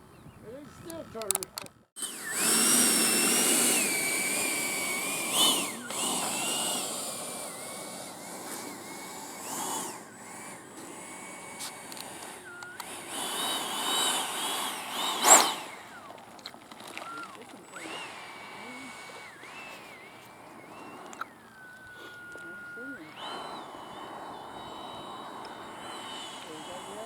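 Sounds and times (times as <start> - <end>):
electric ducted fan whining: 0.0 - 27.0.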